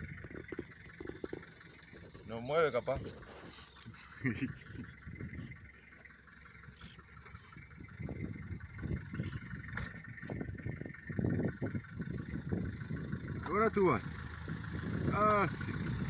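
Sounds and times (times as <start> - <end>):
pickup truck engine running: 0.0 - 16.0.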